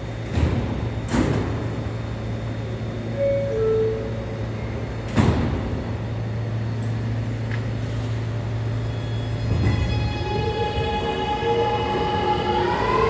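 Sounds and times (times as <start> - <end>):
subway car humming: 0.0 - 13.0.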